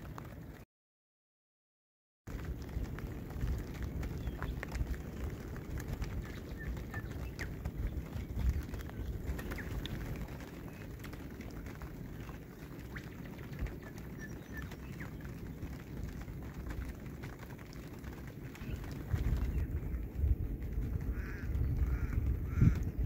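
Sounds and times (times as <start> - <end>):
wind rumbling on microphone: 0.0 - 0.6, 2.3 - 23.0
small ticks and splashes: 2.3 - 22.9.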